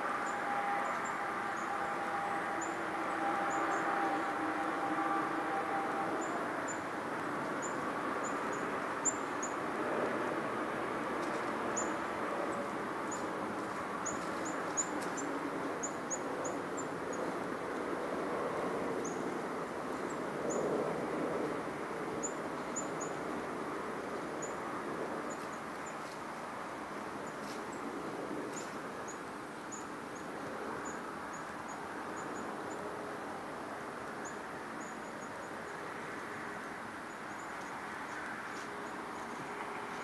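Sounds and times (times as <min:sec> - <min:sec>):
outdoor background rush: 0:00.0 - 0:40.0.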